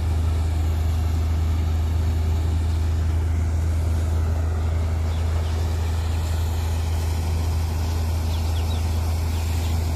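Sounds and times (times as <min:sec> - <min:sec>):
steady hiss: 0:00.0 - 0:09.9
tractor and thresher droning: 0:00.0 - 0:09.9.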